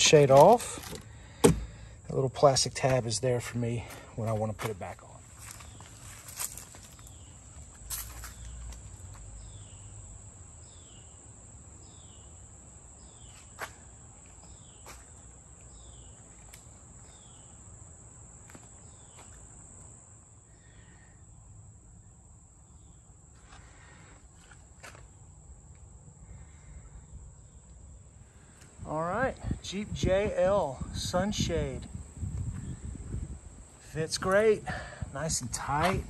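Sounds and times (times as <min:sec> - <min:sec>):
insects droning: 0:00.0 - 0:36.0.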